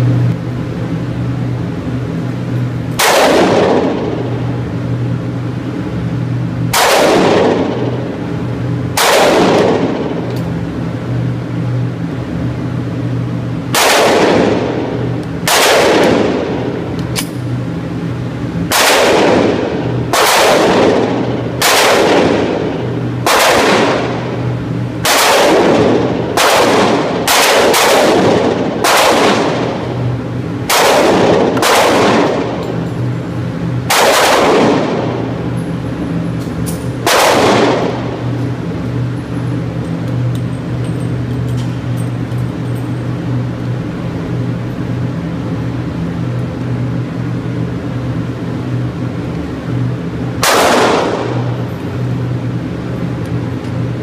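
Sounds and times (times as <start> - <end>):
pistol shots echoing indoors: 1.1 - 4.6, 5.3 - 11.8, 13.6 - 17.4, 18.2 - 46.3, 50.4 - 52.9.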